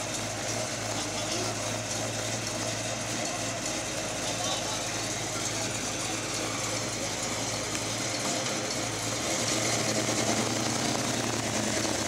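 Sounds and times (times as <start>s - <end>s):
car engine rolling past: 0.0s - 12.0s.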